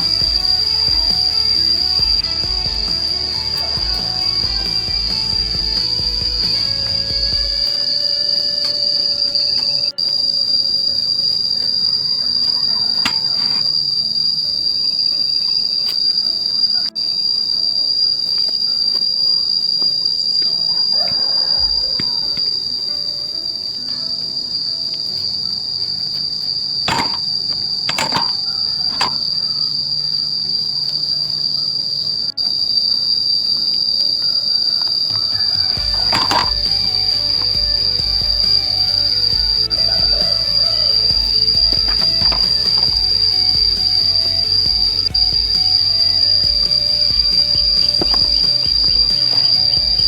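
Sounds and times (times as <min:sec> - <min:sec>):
insect chorus buzzing: 0:00.0 - 0:50.0.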